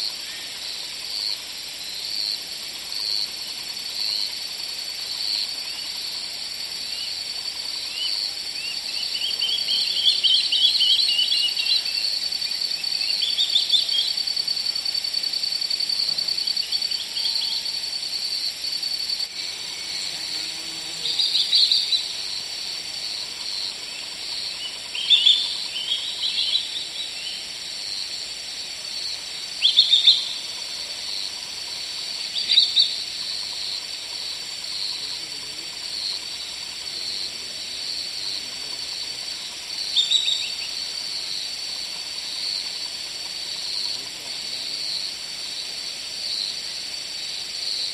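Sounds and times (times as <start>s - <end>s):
high-pitched insect trill: 0.0s - 47.9s.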